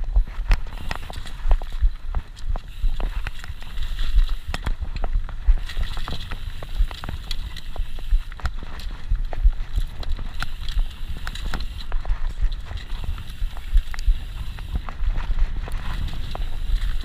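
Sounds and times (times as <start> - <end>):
bike knocks and clatters: 0.0 - 17.0
mountain bike rumbling on dirt: 0.0 - 17.0.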